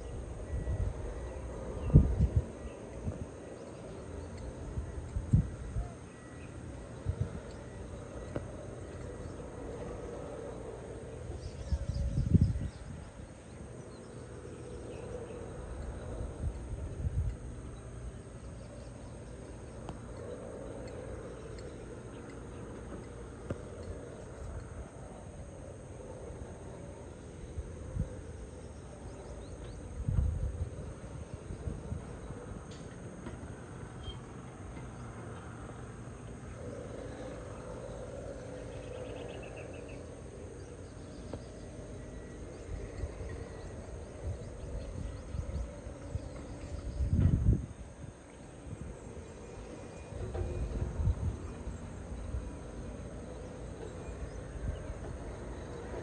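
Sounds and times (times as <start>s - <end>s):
high insect trill: 0.0s - 56.0s
low hum: 0.0s - 56.0s
steady low rumble: 0.0s - 56.0s.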